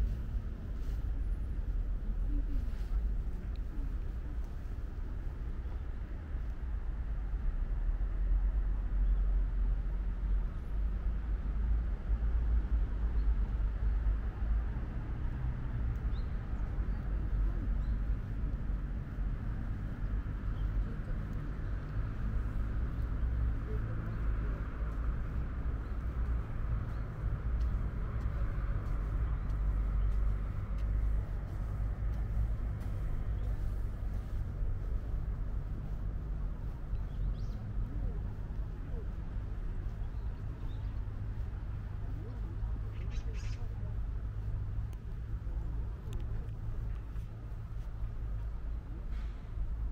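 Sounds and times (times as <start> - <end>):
footsteps on paved path: 0.0 - 5.6, 13.2 - 49.9
distant traffic hum: 0.0 - 49.9
low rumble: 0.0 - 49.9.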